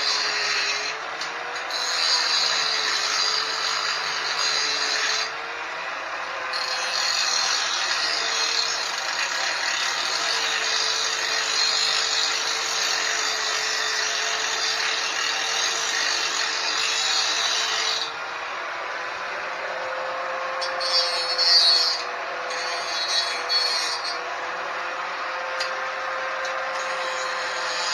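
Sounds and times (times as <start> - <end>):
angle grinder on metal: 0.0 - 27.9.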